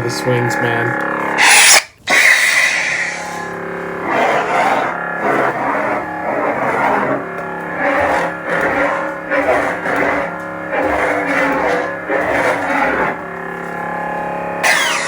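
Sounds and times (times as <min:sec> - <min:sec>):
lightsaber electric hum: 0:00.0 - 0:15.0.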